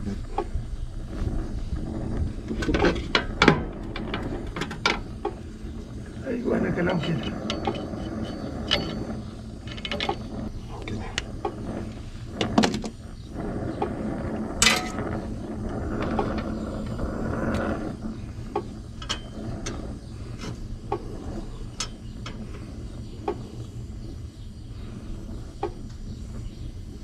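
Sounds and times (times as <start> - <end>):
torch flame hissing: 0.0 - 27.0.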